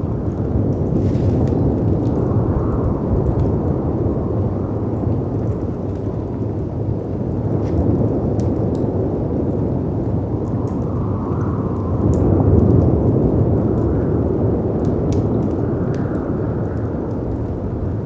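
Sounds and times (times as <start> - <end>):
howling wind: 0.0 - 18.0
wood fire crackling: 0.0 - 18.0.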